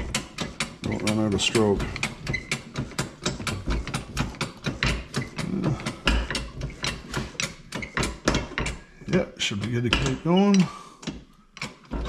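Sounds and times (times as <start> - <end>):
hydraulic press jack clicking: 0.0 - 12.0.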